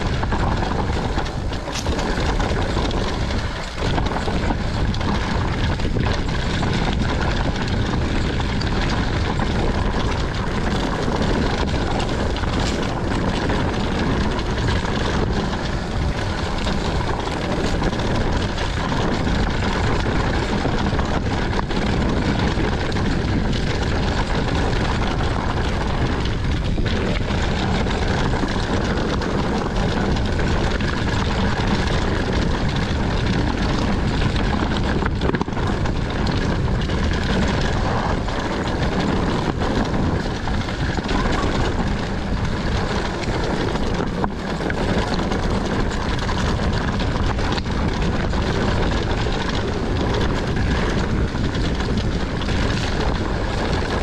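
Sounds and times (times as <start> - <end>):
tyres rolling over dirt trail: 0.0 - 54.0
wind on microphone: 0.0 - 54.0.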